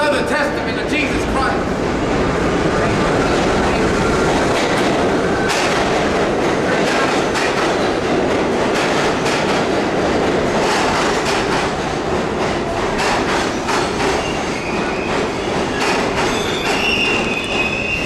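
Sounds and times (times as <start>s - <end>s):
subway train wheels on rail: 0.0s - 18.0s.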